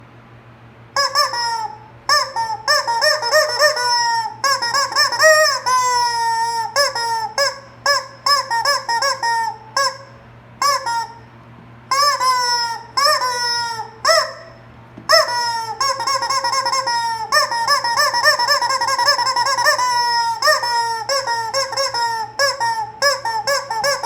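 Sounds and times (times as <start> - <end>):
squeaky toy squawks: 1.0 - 11.3, 11.9 - 24.0.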